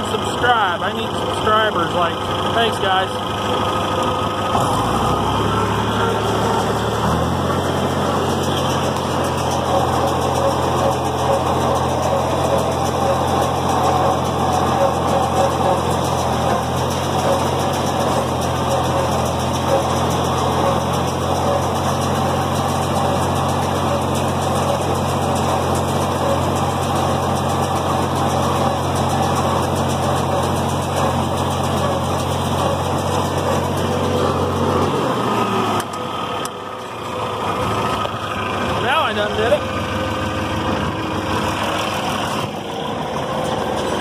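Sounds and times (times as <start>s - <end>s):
baler mechanical clatter: 0.0s - 44.0s
tractor engine under load: 0.0s - 44.0s.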